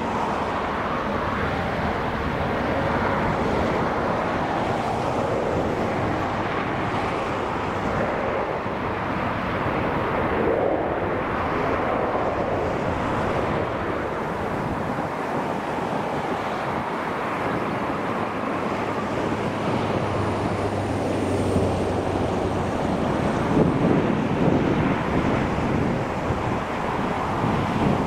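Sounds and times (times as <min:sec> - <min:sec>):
jet engines running: 0:00.0 - 0:28.0
wind buffeting microphone: 0:00.0 - 0:28.0.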